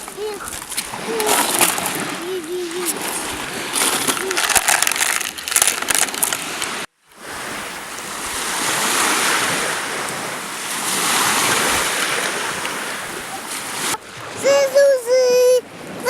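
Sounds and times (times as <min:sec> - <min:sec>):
sea surf washing on shore: 0:00.0 - 0:16.0.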